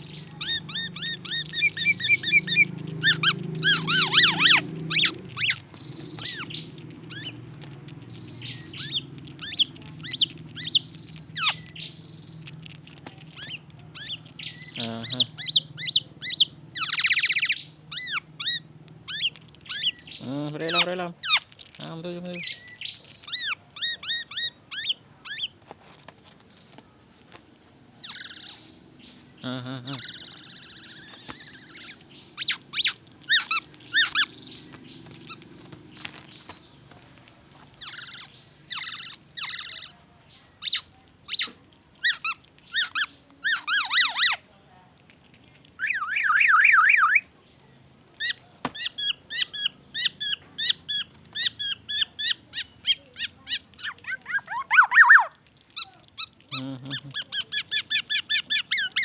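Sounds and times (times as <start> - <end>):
oriole singing whistles and chirps: 0.0 - 12.6, 13.3 - 21.5, 22.3 - 25.6, 28.0 - 35.4, 37.8 - 44.4, 45.8 - 47.4, 48.2 - 59.0.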